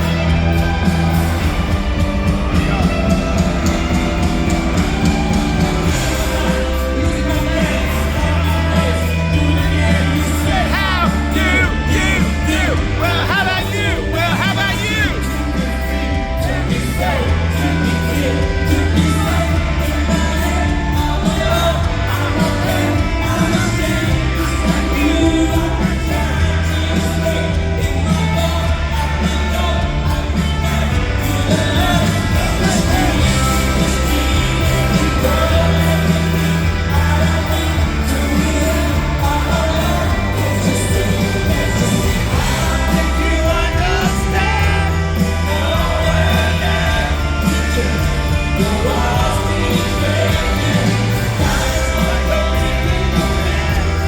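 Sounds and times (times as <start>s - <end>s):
lead singer singing: 0.0s - 54.0s
rock band playing live: 0.0s - 54.0s.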